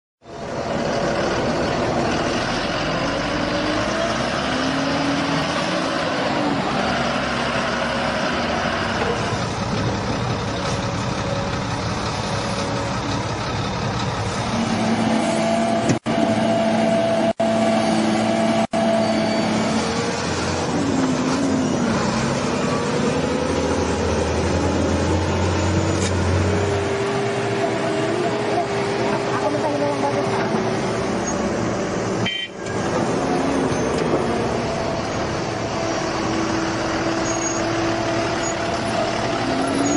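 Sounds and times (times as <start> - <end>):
diesel truck engine revving: 0.3 - 39.9.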